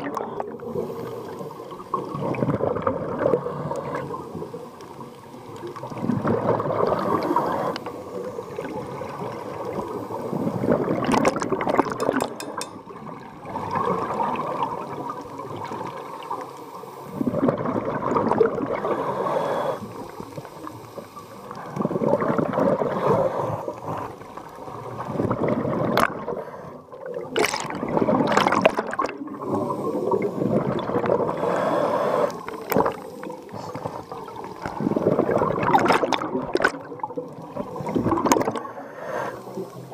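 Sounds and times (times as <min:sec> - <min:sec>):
regulator bubbles underwater: 0:00.0 - 0:39.9.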